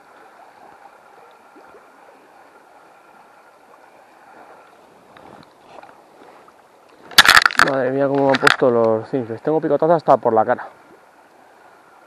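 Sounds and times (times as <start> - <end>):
water babbling over riffle: 0.0 - 12.0.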